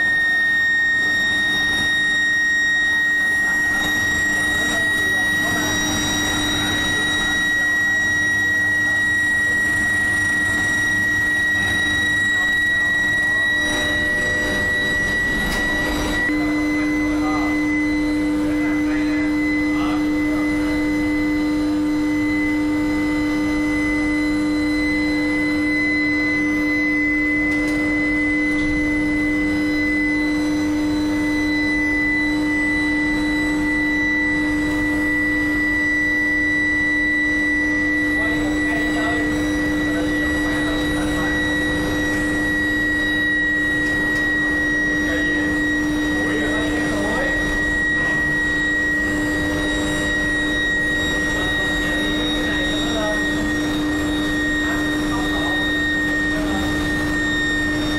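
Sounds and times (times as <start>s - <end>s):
furnace high-pitched whine: 0.0s - 57.9s.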